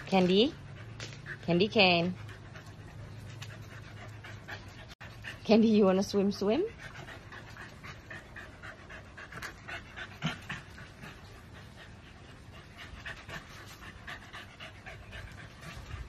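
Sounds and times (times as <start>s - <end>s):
dogs panting: 0.0s - 16.0s.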